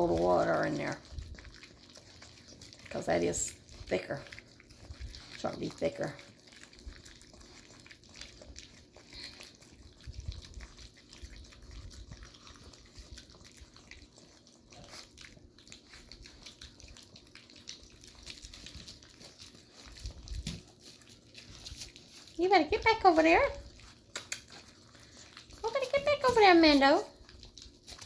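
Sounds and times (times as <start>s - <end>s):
puppies lapping and chewing wet food: 0.0s - 28.0s.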